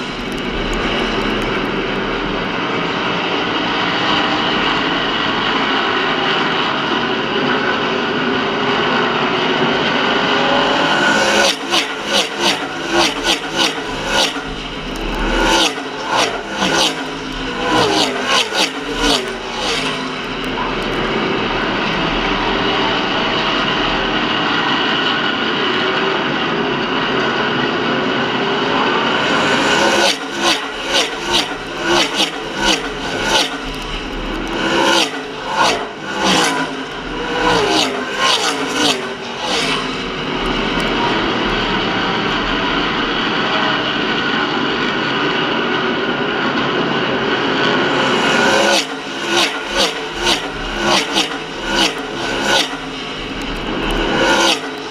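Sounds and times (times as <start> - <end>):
race car engines around track: 0.0 - 54.9
race cars passing close by: 0.0 - 54.9.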